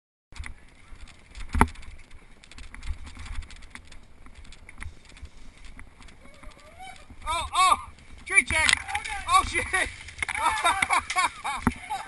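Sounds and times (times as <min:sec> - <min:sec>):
bike clicks and rattles: 0:00.4 - 0:12.0
wind rumble on microphone: 0:00.4 - 0:12.0.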